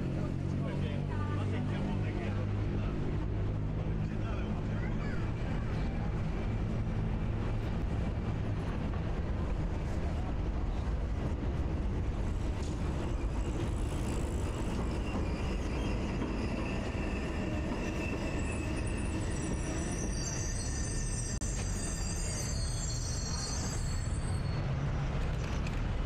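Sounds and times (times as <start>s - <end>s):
tram rumbling on rails: 0.0s - 26.0s
tram wheels squealing: 4.7s - 26.0s.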